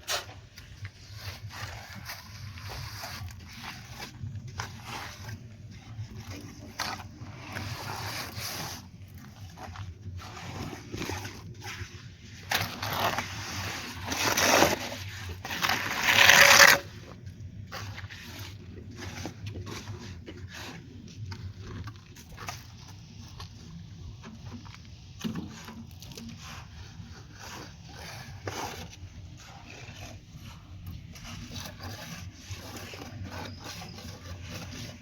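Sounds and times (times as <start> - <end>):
tool scraping mortar: 0.0 - 35.0.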